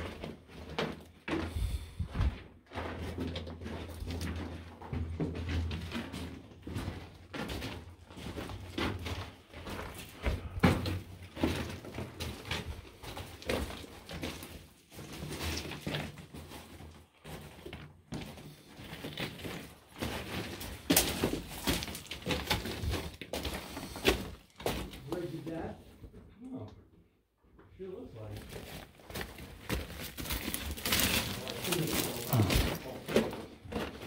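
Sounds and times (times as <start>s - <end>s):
footsteps on loose rock: 0.0s - 25.1s, 28.4s - 34.0s.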